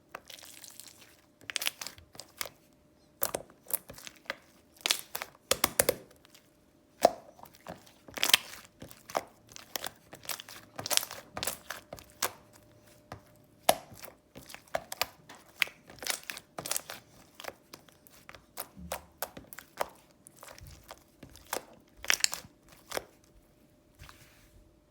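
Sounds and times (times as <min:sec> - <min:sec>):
clicks taps and crinkles of handling: 0:00.0 - 0:23.4.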